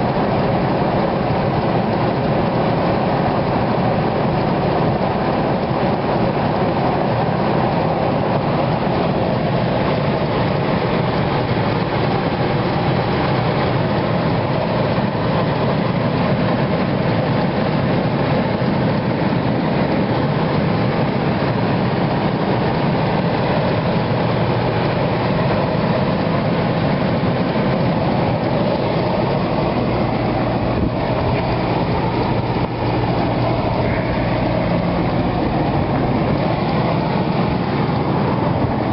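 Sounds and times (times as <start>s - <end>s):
truck engine rumbling: 0.0s - 38.9s.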